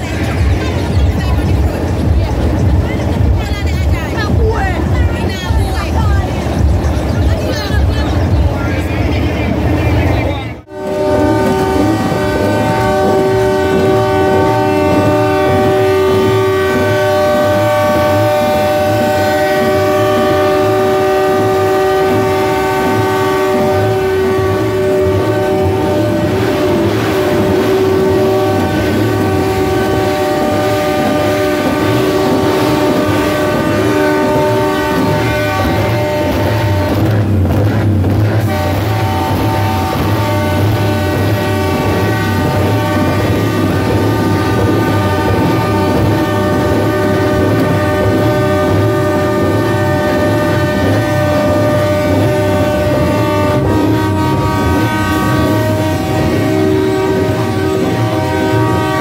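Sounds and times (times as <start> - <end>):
low rumble: 0.0 - 59.0
truck air horn chord: 10.7 - 59.0.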